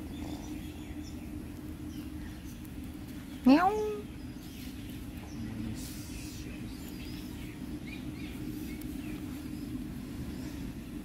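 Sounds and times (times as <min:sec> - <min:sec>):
faint bird chirps: 0:00.0 - 0:10.7
low hum: 0:00.0 - 0:11.0.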